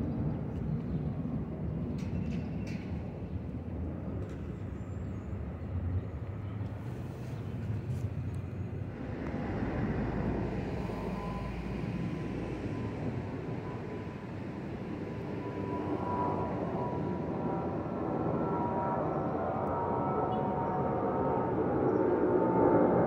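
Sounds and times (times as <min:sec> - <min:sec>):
jet airliner rumble overhead: 0:00.0 - 0:23.0.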